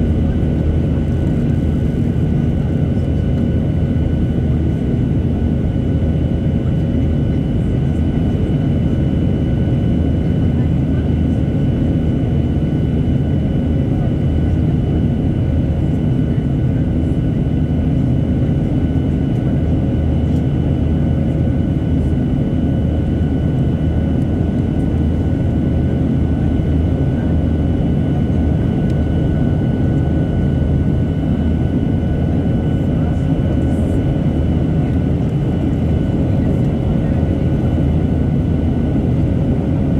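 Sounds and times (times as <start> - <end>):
jet engines rumbling in flight: 0.0 - 39.9.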